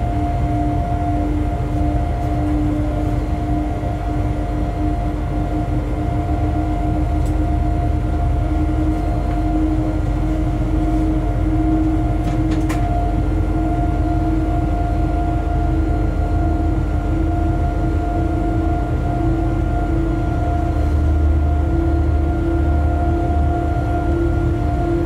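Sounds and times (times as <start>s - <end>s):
train locomotive rumble: 0.0s - 25.0s.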